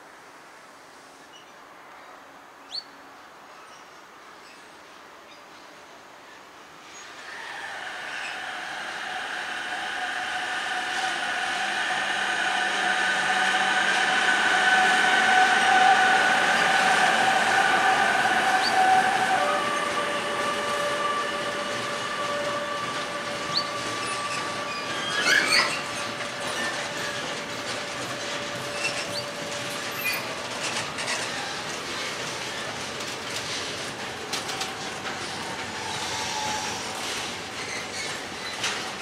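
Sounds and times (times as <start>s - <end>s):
freight train rolling past: 6.8s - 39.0s.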